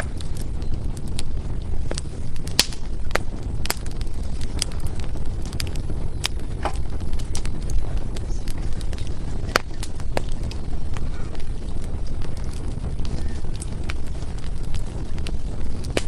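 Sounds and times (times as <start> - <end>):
firewood crackling and popping: 0.0 - 16.0
low steady rumble: 0.0 - 16.0.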